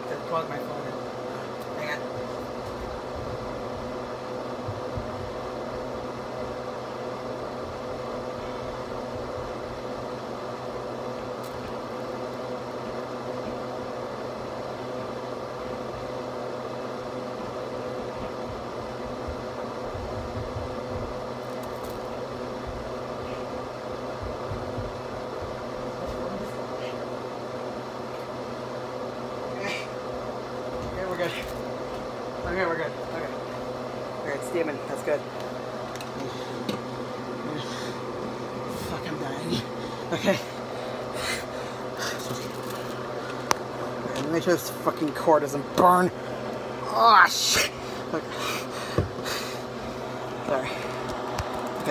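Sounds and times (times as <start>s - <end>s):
range hood exhaust fan humming: 0.0s - 51.9s.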